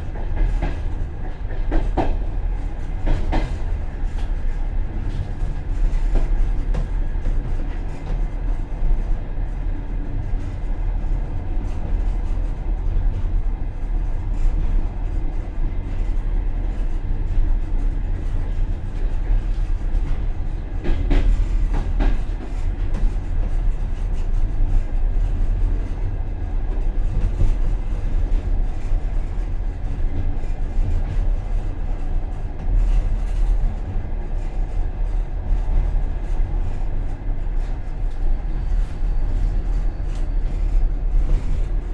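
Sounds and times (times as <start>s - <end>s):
train clatter: 0.0s - 41.9s
train coach wheels rumbling: 0.0s - 41.9s.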